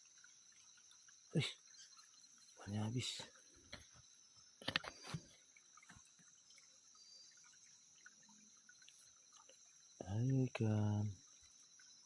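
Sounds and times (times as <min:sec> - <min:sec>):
insects chirring: 0:00.0 - 0:12.0
watery splashes and clicks: 0:00.0 - 0:12.0.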